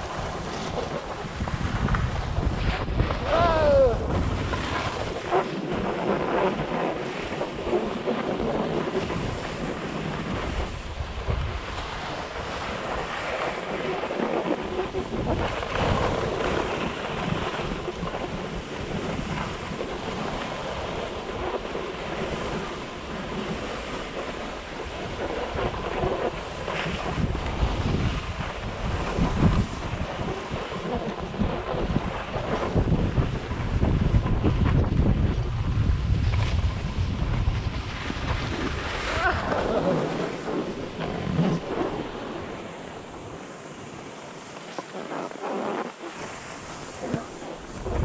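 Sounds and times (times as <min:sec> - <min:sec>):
skis scraping on snow: 0:00.0 - 0:48.0
wind buffeting microphone: 0:00.0 - 0:48.0.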